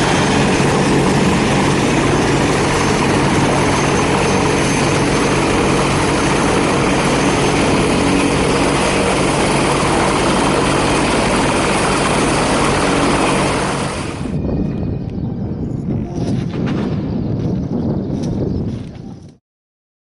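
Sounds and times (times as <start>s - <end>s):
turboprop aircraft engines: 0.0s - 18.7s.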